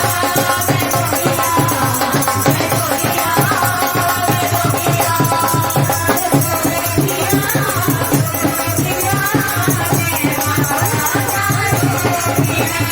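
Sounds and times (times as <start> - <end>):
devotional song music: 0.0 - 12.9
fast drum beat: 0.0 - 12.9
shaker percussion: 0.0 - 12.9.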